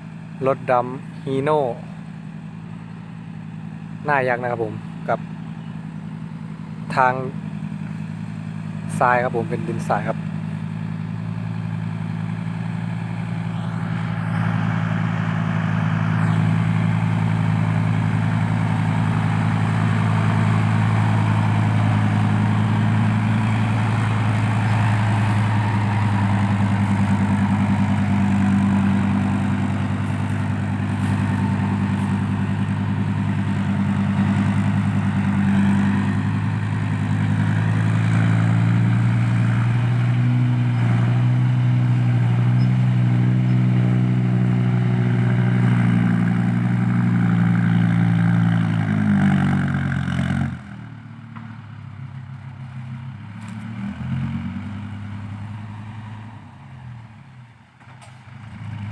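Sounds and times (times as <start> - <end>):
heavy diesel engine running: 0.0 - 53.8.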